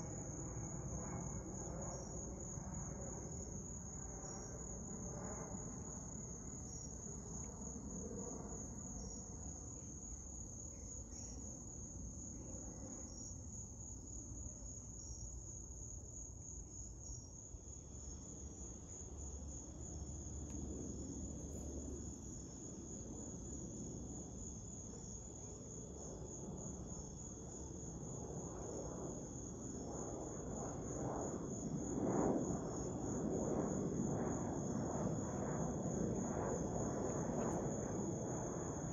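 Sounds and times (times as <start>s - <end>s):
jet airliner passing overhead: 0.0s - 10.3s, 11.0s - 13.5s, 18.2s - 38.9s
high insect tone: 0.0s - 38.9s
insects trilling: 0.0s - 38.9s.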